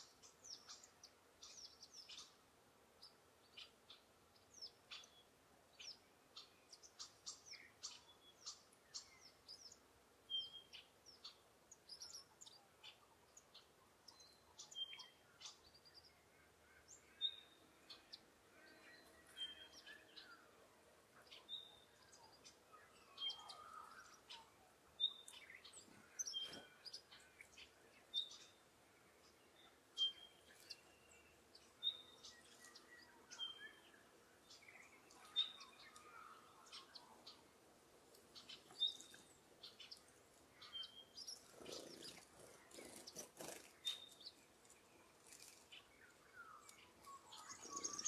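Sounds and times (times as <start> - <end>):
birds chirping: 3.0 - 48.0.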